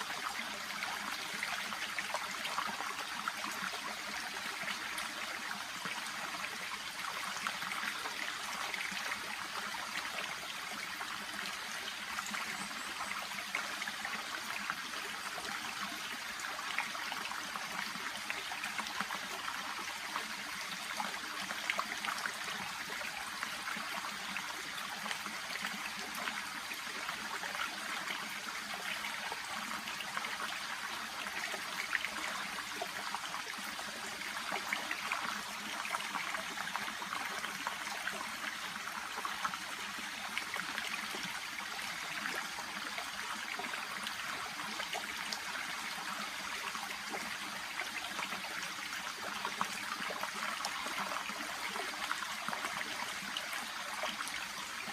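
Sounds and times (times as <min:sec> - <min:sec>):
brook babbling: 0:00.0 - 0:54.9.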